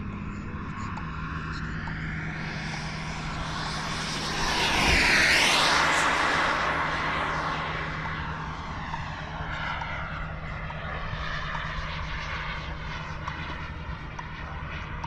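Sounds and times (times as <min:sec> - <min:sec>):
model jet turbine hiss and whine: 0:00.2 - 0:13.9.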